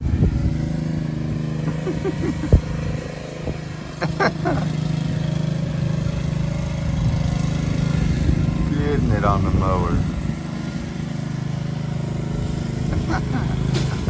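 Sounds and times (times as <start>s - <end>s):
engine idling: 0.6s - 14.0s.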